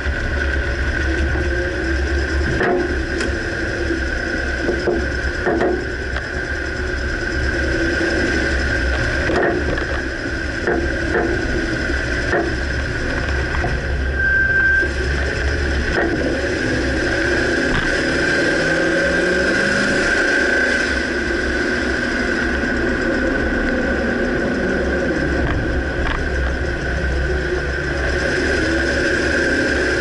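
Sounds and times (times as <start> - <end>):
suspension clunks: 0.0 - 30.0
vehicle engine and road noise: 0.0 - 30.0.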